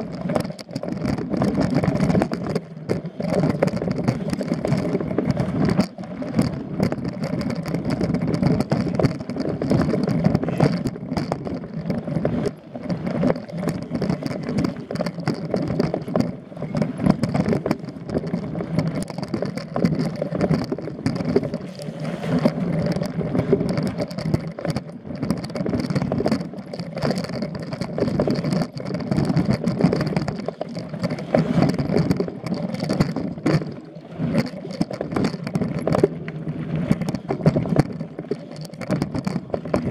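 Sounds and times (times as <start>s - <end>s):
bike rattling: 0.0s - 36.2s, 36.8s - 39.9s
bike tyres rolling over dirt: 0.0s - 39.9s.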